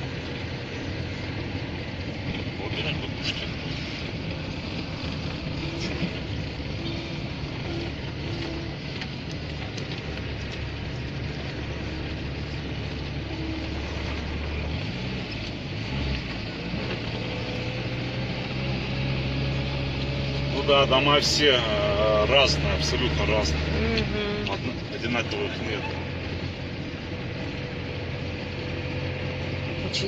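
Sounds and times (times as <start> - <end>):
road noise: 0.0 - 30.0
van engine hum: 0.0 - 30.0.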